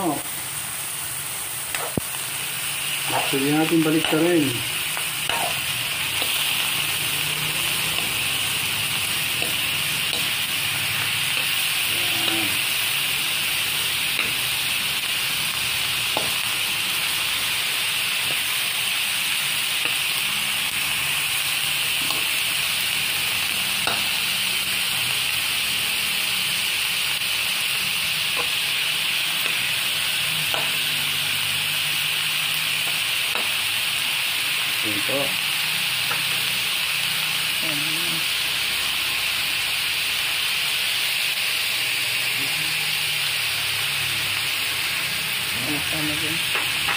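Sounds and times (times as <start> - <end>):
chicken sizzling in oil: 0.0 - 46.9.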